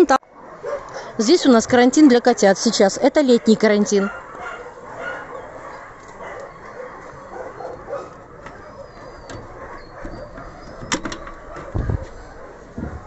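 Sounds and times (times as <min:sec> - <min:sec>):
outdoor background noise: 0:00.0 - 0:13.0
dogs barking faintly: 0:00.2 - 0:13.0.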